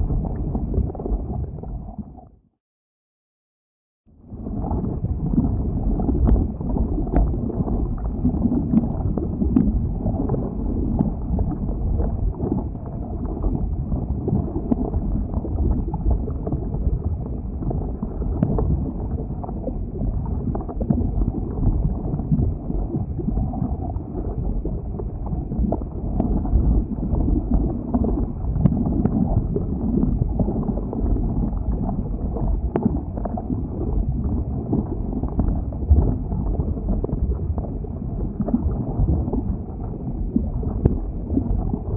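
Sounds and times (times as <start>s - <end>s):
lava flow rumbling: 0.0s - 2.2s, 4.2s - 41.9s.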